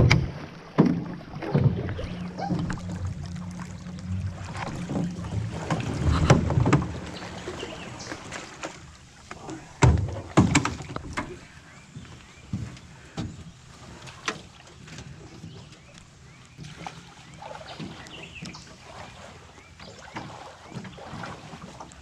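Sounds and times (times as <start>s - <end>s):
low steady hum: 0.0s - 17.8s
gear knocking in a fishing boat: 0.0s - 22.0s.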